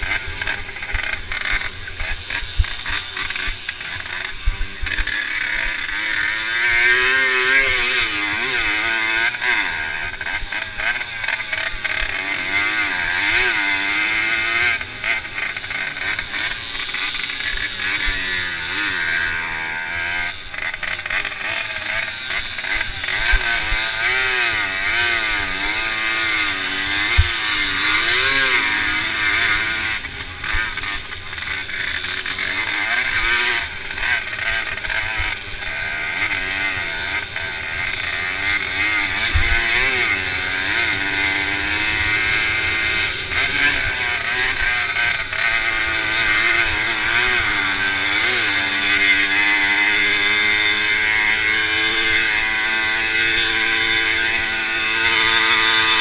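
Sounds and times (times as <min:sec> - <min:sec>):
constant rushing noise: 0:00.0 - 0:56.0
moped engine racing: 0:00.0 - 0:56.0.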